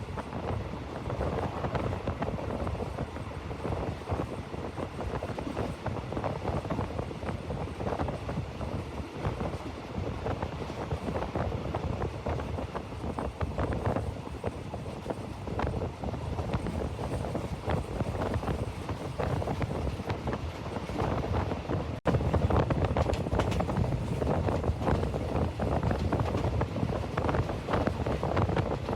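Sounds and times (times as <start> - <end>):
moving train rumble: 0.0 - 28.9
wind buffeting microphone: 0.0 - 28.9.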